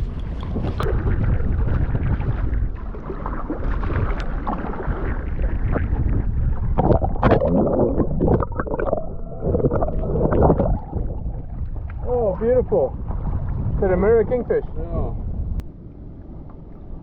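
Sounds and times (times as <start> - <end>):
water sloshing against a hull: 0.0 - 17.0
wind on microphone: 0.0 - 17.0.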